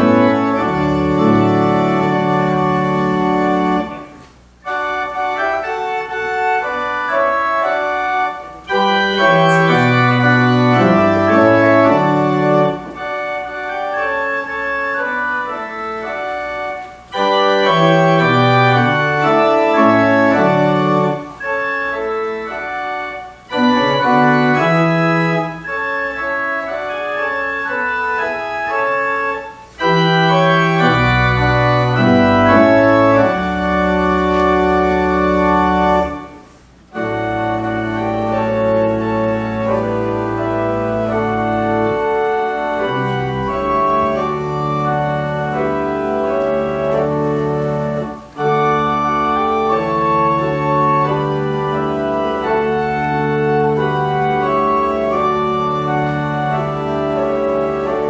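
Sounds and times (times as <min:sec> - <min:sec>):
church organ playing chords: 0:00.0 - 0:58.0.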